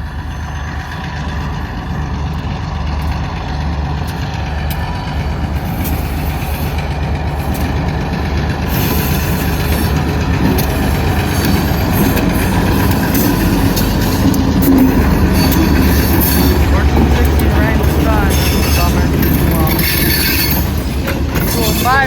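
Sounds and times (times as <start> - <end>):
diesel engine rumble: 0.0 - 22.0
train rolling: 0.0 - 22.0.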